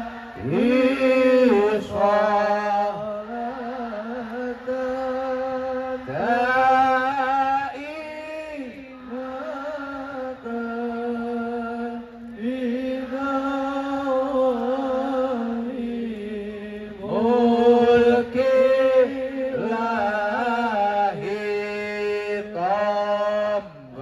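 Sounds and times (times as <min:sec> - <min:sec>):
man chanting devotional song: 0:00.0 - 0:24.0.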